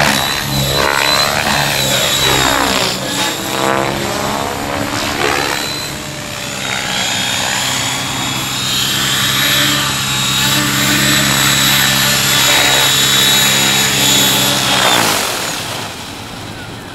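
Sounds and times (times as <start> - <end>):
helicopter rotor blades beating: 0.0 - 16.9
high electric motor whine: 0.0 - 16.9.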